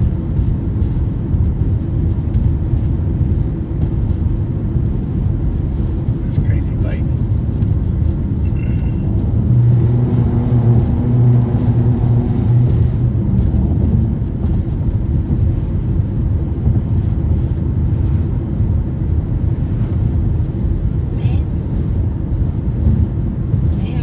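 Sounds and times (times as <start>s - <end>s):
car road and engine rumble: 0.0s - 24.0s
low hum: 0.0s - 24.0s.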